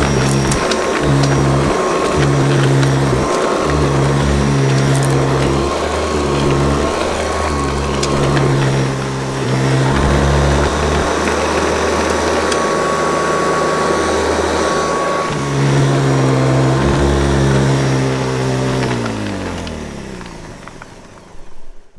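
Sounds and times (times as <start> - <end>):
vacuum cleaner running: 0.0 - 21.9.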